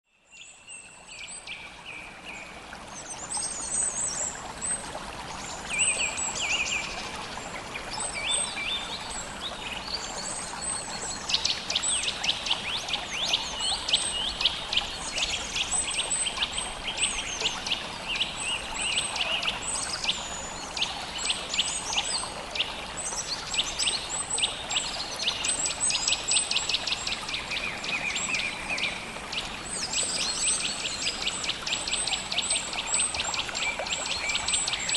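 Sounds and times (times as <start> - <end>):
songbirds chirping: 0.1 - 34.9
stream flowing: 0.2 - 34.9.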